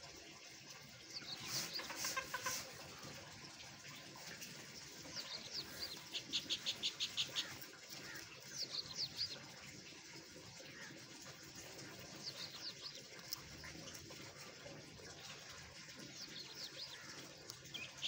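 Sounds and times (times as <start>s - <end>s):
small birds chirping: 0.9s - 18.0s.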